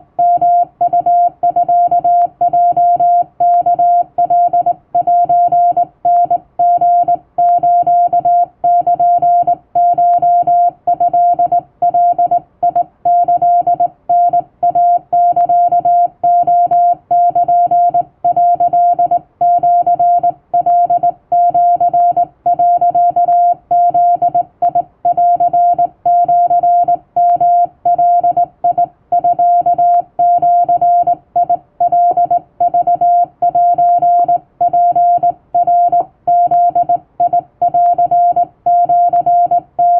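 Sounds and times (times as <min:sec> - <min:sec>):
morse code tone: 0:00.2 - 0:39.9.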